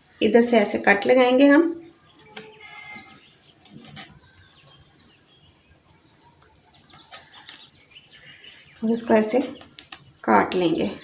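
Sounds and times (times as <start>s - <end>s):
faint bird chirps: 1.7s - 11.0s.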